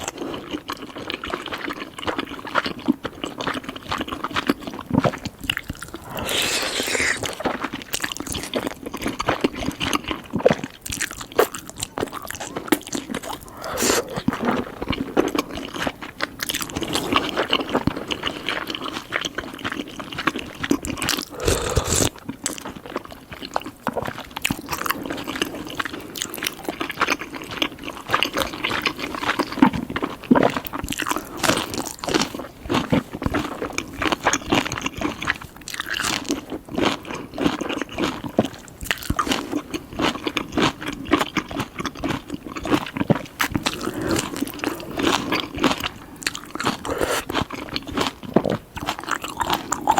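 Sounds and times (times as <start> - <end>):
chewing with small clicks: 0.0 - 49.9.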